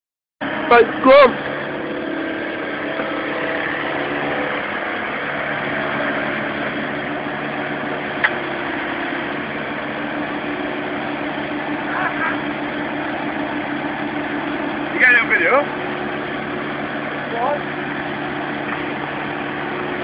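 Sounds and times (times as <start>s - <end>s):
diesel engine idling: 0.4s - 20.0s.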